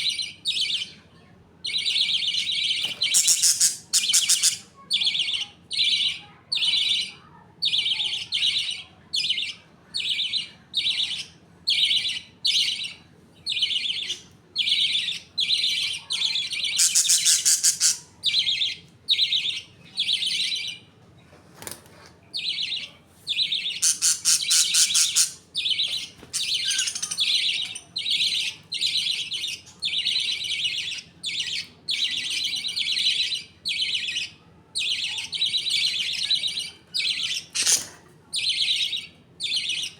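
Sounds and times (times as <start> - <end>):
budgerigars chirping: 1.7 - 7.1, 7.7 - 20.9, 22.4 - 39.9
buzzy bird trills: 1.7 - 7.1, 10.4 - 20.8, 22.4 - 39.9.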